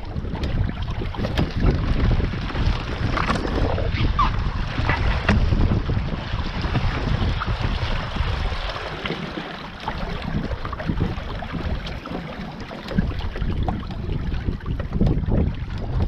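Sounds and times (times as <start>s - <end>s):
water splashing against hull: 0.0s - 16.0s
wind rumbling on microphone: 0.0s - 16.0s.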